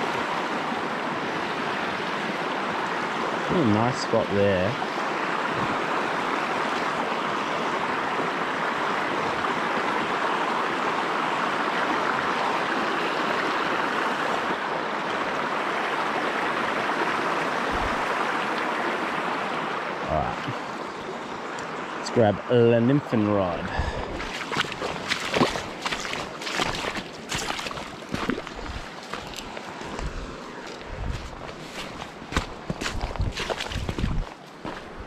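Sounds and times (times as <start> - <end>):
river water rushing over rocks: 0.0 - 22.0, 23.1 - 35.0.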